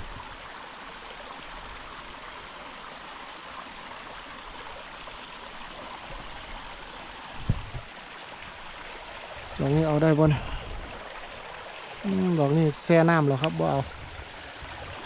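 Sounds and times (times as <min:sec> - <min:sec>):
stream trickling: 0:00.0 - 0:15.0.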